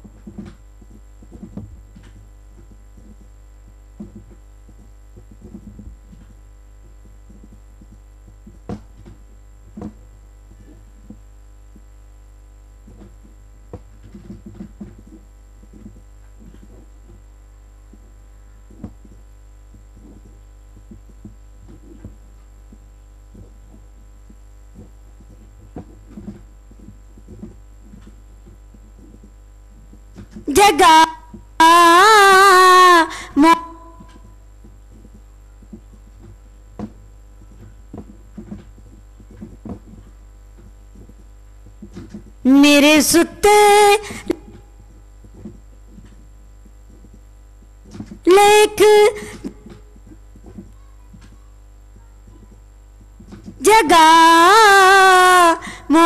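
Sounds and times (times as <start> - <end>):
faint clicks and knocks: 0.0 - 30.5, 33.8 - 42.4, 44.3 - 48.3, 49.2 - 53.7
low electrical hum: 0.0 - 56.0.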